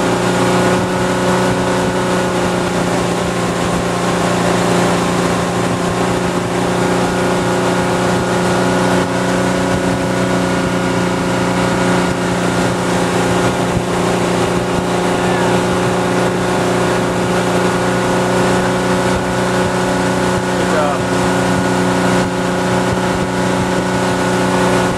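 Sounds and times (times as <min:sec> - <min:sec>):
motorboat engine running: 0:00.0 - 0:24.9
water rushing: 0:00.0 - 0:24.9
wind: 0:00.0 - 0:24.9.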